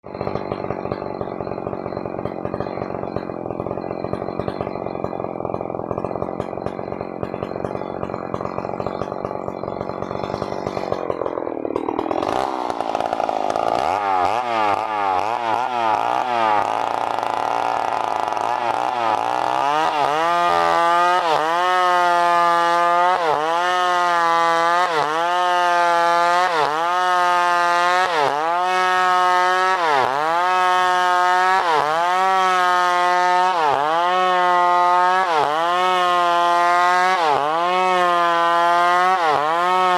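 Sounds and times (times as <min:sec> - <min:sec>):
chainsaw revving: 0:00.0 - 0:39.9
chainsaw sawing wood: 0:00.0 - 0:39.9.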